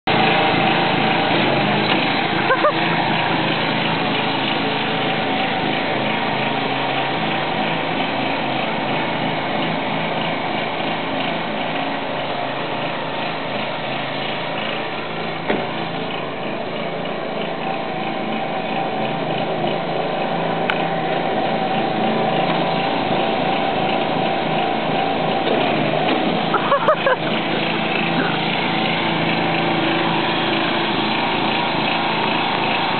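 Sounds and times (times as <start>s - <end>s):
riding mower engine running: 0.0s - 32.9s.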